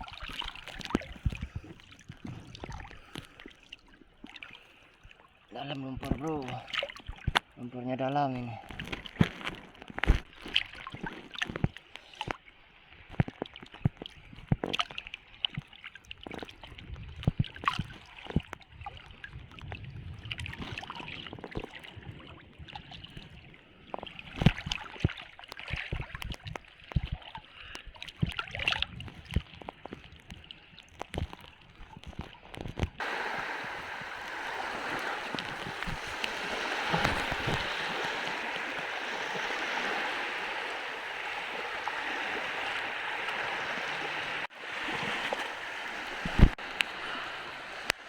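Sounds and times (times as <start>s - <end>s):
legs wading through water: 0.0s - 7.6s, 8.6s - 48.0s.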